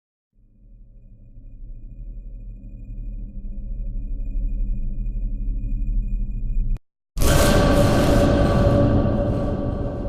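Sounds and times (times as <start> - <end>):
low rumble drone: 0.5 - 10.0.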